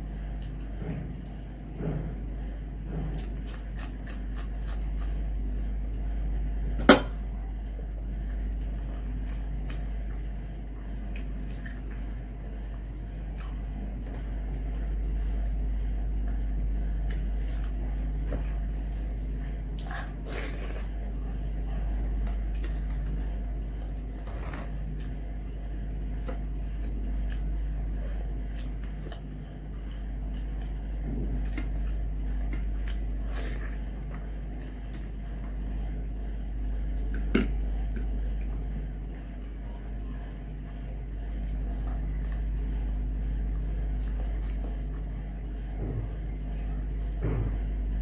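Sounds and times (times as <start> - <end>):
steady low hum: 0.0 - 48.0
chewing: 2.9 - 6.3, 8.2 - 47.2.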